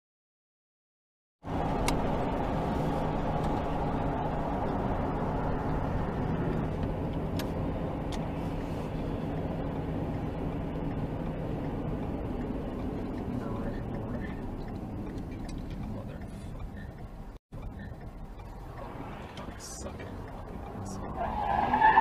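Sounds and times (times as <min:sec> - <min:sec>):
car engine and tyre noise: 0:01.4 - 0:22.0.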